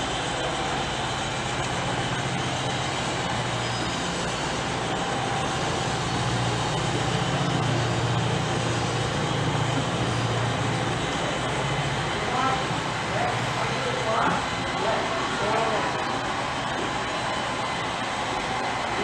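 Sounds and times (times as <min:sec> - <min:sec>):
model train running: 0:00.0 - 0:19.0.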